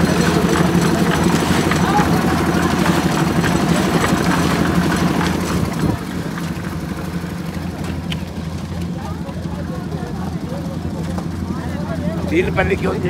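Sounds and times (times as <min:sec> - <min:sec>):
concrete mixer engine humming: 0:00.0 - 0:13.0.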